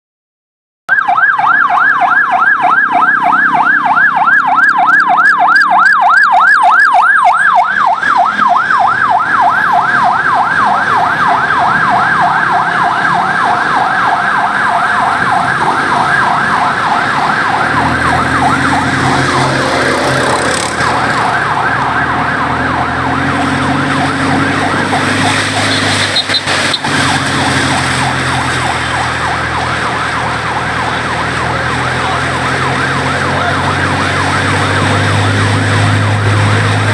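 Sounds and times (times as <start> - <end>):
siren yelping: 0.9 - 36.9
traffic engine rumble: 0.9 - 36.9.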